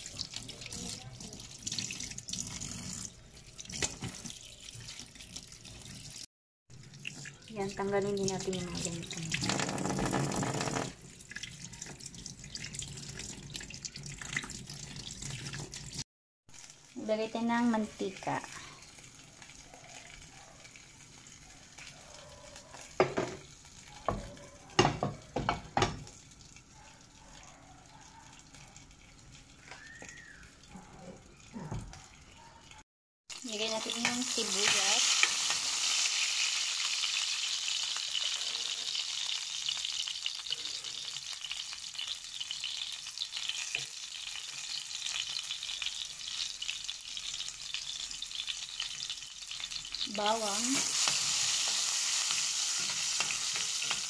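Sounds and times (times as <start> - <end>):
oil sizzling in a pan: 0.0 - 27.2, 28.4 - 32.2, 33.3 - 54.0.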